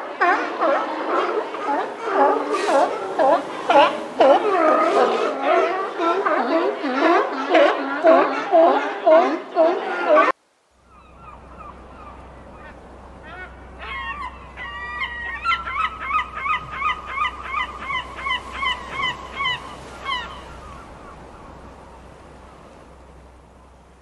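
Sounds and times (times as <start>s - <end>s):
gulls calling: 0.0s - 24.0s.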